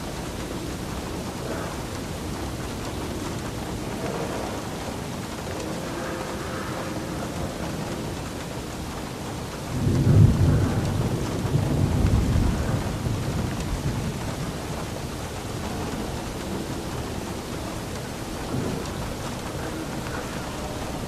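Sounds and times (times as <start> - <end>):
rumble of thunder: 0.0 - 21.0
steady rain: 0.0 - 21.0.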